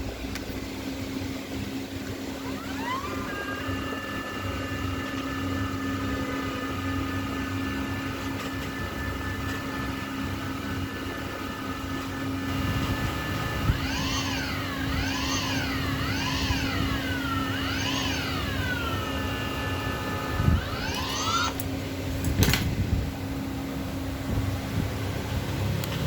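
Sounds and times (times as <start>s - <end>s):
high motor whine: 0.0s - 26.0s.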